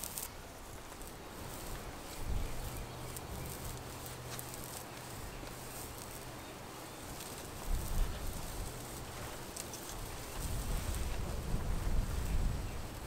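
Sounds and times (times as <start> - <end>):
paint roller sticky hiss: 0.0 - 13.0.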